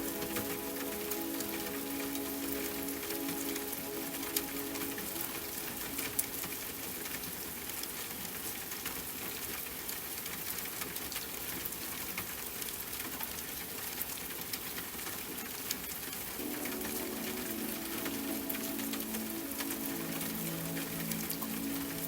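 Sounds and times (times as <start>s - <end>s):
raindrops ticking on a surface: 0.0s - 22.0s
steady rain: 0.0s - 22.0s.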